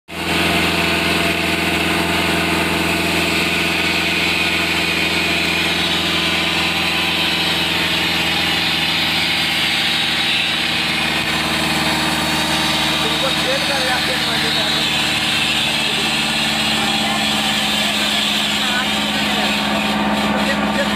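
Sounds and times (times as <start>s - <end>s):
engine idling: 0.1s - 20.9s.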